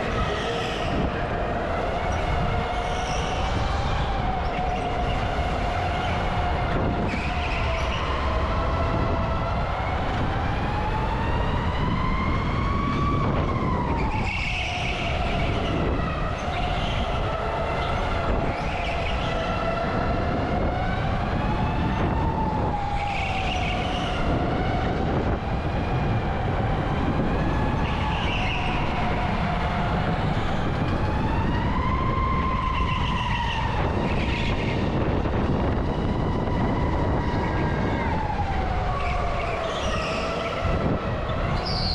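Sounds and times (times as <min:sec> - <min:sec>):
wind and road noise: 0:00.0 - 0:41.9.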